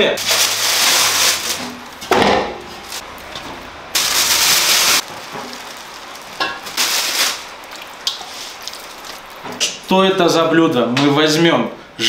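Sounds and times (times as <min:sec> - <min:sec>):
plastic bags rustling: 0:00.0 - 0:09.8.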